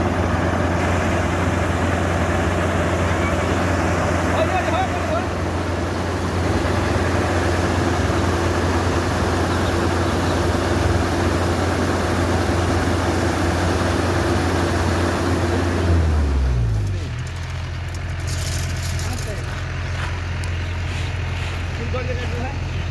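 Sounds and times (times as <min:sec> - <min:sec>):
combine harvester diesel engine: 0:00.0 - 0:22.9.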